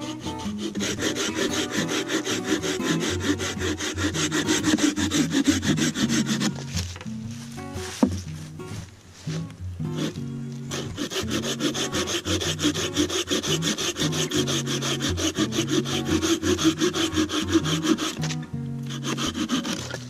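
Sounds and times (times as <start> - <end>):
hand saw cutting log: 0.0 - 7.0, 9.3 - 20.0.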